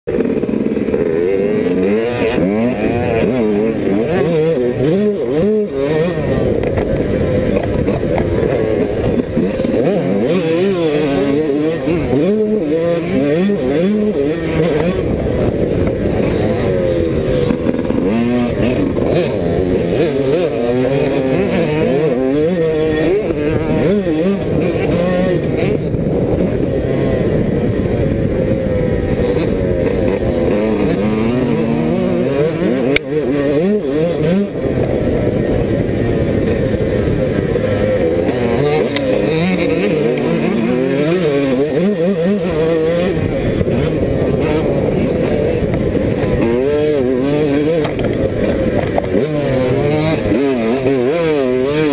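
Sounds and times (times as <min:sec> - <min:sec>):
motocross engine revving: 0:00.1 - 0:51.9.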